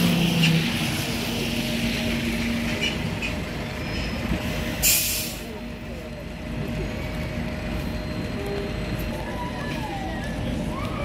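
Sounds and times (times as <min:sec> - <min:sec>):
bus engine hum: 0:00.0 - 0:11.0.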